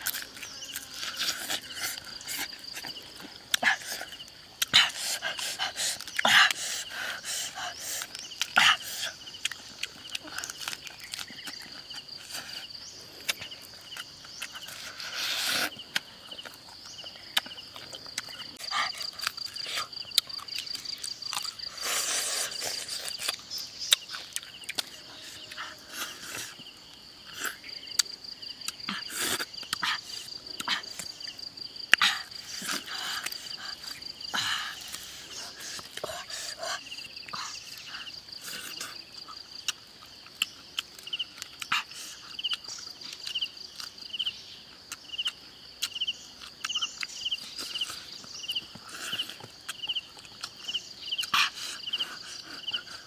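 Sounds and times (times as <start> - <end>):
chewing and lip-smacking: 0.0 - 26.6, 34.7 - 44.0, 44.9 - 53.0
pulsing insect chirr: 0.0 - 53.0.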